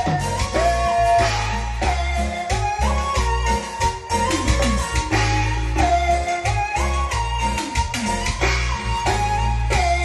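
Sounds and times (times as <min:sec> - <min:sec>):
dance music: 0:00.0 - 0:10.0.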